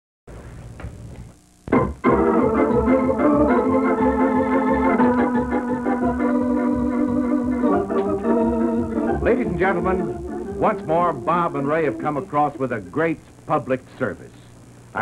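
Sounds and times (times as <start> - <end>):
organ playing sustained chords: 1.7 - 13.7.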